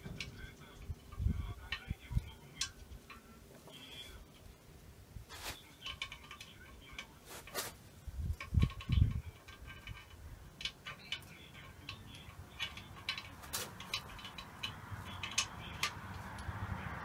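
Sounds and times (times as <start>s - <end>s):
light metallic clicks and taps: 0.0s - 4.5s, 5.6s - 17.0s.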